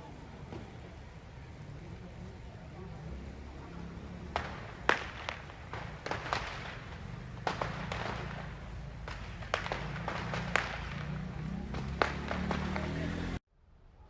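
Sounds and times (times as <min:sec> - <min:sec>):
firecrackers banging: 0:00.0 - 0:13.4.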